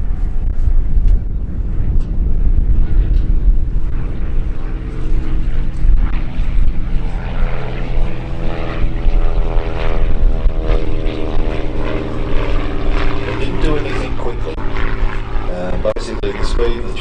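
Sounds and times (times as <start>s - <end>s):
low rumble: 0.0s - 17.0s
propeller planes droning: 0.0s - 17.0s.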